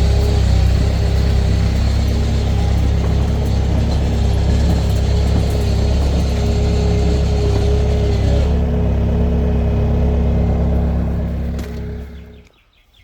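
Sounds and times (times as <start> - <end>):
engine idling: 0.0 - 12.5.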